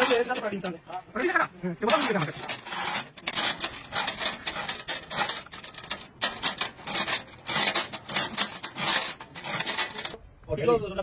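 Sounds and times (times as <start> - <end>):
metal parts scraped by hand: 0.0 - 10.2.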